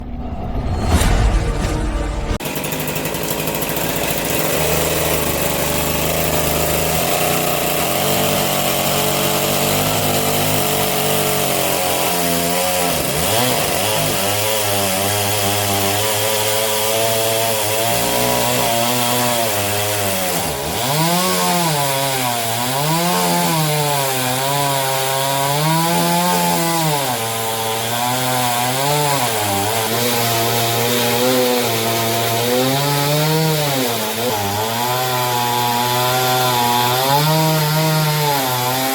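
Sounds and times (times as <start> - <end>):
chainsaw cutting wood: 2.3 - 38.9.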